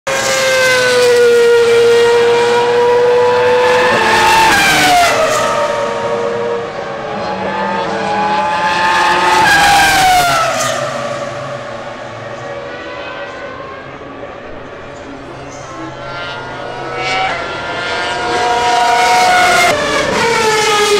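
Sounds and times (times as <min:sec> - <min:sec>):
racing car engine high revving: 0:00.1 - 0:13.7, 0:15.1 - 0:20.9.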